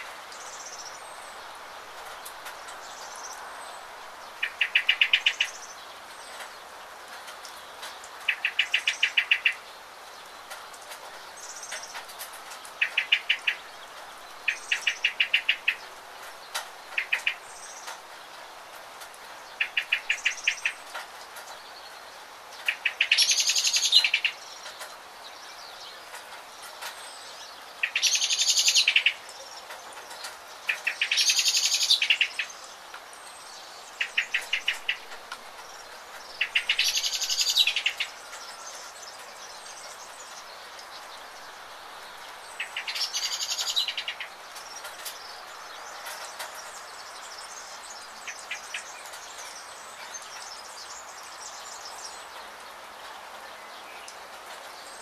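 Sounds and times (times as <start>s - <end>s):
songbirds singing: 0.0s - 55.0s
steady rain: 0.0s - 55.0s.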